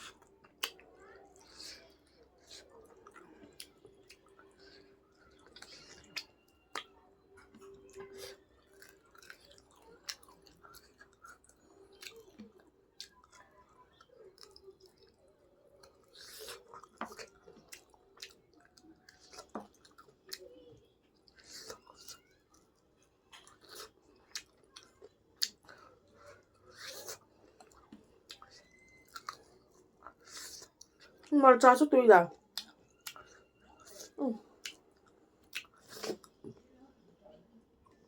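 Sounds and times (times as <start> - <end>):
person chewing close to microphone: 0.0 - 31.3, 32.5 - 36.6.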